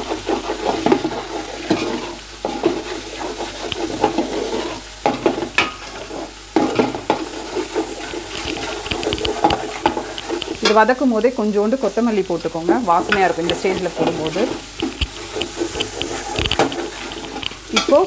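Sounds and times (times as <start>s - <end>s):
metal spoon scraping a pot: 0.0s - 10.8s, 12.6s - 18.0s
oil sizzling: 0.0s - 18.0s.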